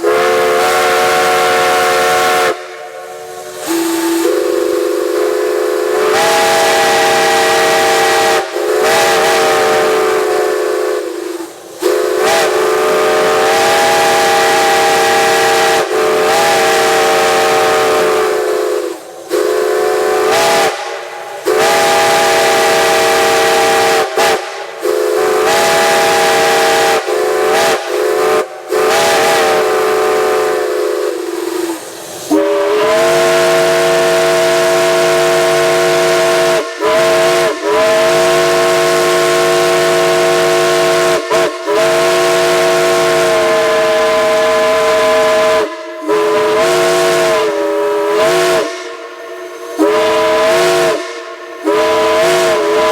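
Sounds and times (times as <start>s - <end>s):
steam chime whistle blasts: 0.0s - 52.9s
steam hissing: 0.0s - 52.9s.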